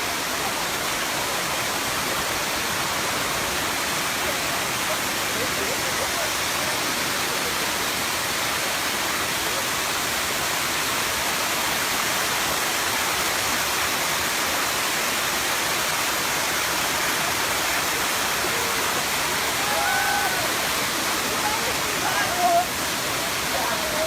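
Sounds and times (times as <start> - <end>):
waterfall pouring: 0.0 - 24.0.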